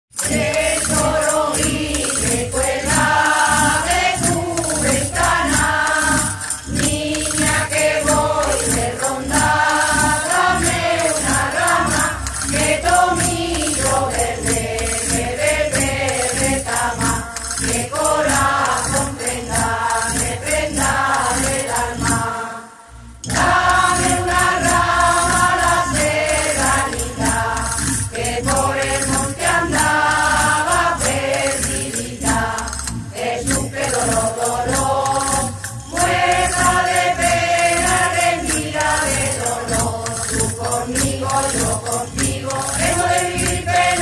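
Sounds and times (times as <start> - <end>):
small bells jingling: 0.1 - 22.6, 23.2 - 44.0.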